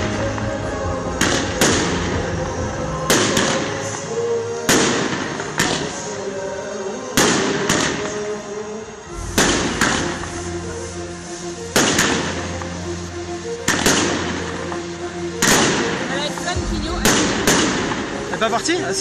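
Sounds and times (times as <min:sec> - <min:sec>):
fireworks bangs: 0:00.1 - 0:08.5, 0:09.1 - 0:12.5, 0:13.6 - 0:18.6.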